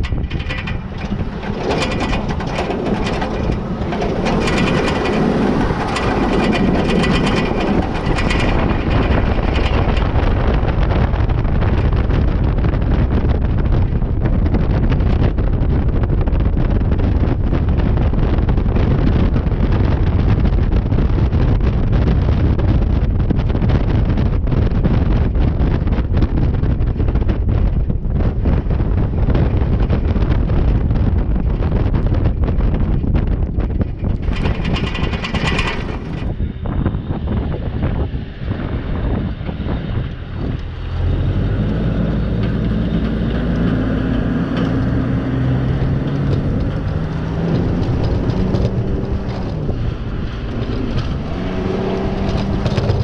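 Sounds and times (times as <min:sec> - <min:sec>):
engine rumble: 0:00.0 - 0:53.0
wind buffeting microphone: 0:00.0 - 0:53.0.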